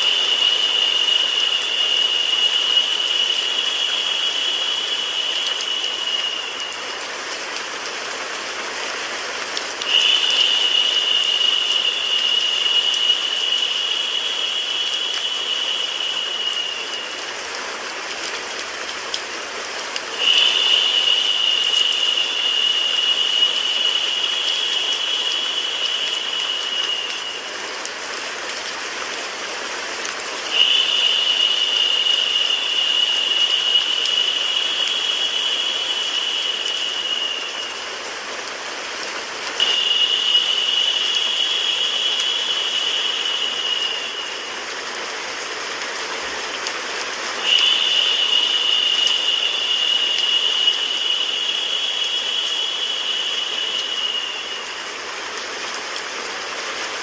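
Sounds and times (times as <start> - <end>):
brighter hiss layer: 0.0 - 57.0
rain with white noise hiss: 0.0 - 57.0.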